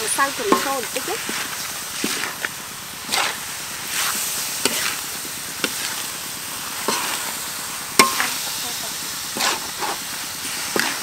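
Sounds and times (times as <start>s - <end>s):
metal ladle scraping a pan: 0.0s - 6.1s, 6.7s - 11.0s
chicken sizzling in a wok: 0.0s - 11.0s.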